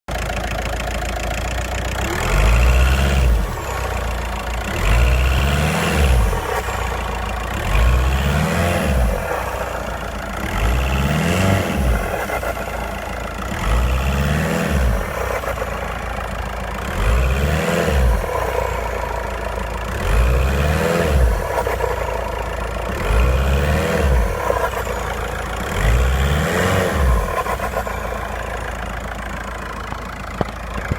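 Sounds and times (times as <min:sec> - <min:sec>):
diesel engine revving: 0:00.1 - 0:30.9.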